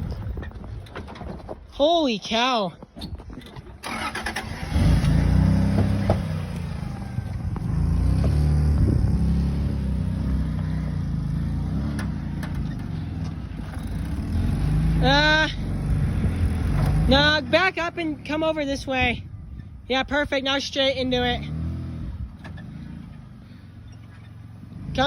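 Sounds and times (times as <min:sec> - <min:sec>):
vehicle engine at low revs: 0:03.8 - 0:25.0.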